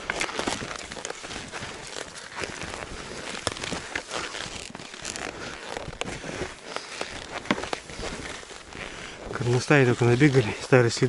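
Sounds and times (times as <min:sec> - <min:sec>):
clothing rustling: 0:00.0 - 0:11.0
skis crunching over snow: 0:00.0 - 0:11.0.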